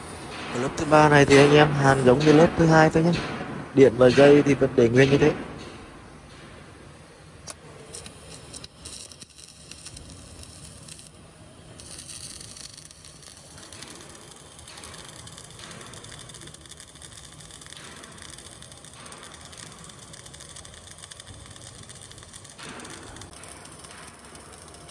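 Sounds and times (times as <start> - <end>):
welding arc crackling and hissing: 0.0 - 24.9.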